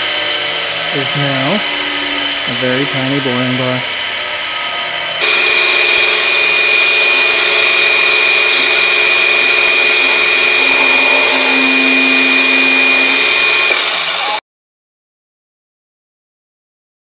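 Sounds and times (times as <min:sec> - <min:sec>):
milling machine spindle whine: 0:00.0 - 0:14.4.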